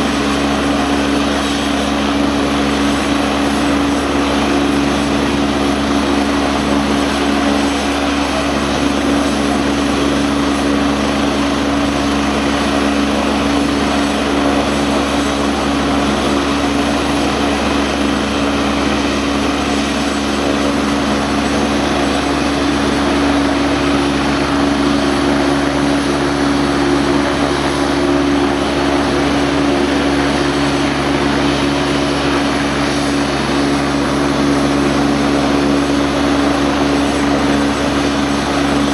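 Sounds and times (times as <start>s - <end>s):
helicopter engines and rotor humming: 0.0s - 38.9s.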